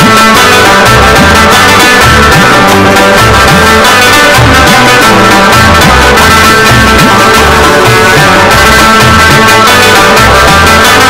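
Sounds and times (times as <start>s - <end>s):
background music with plucked strings: 0.0s - 11.0s.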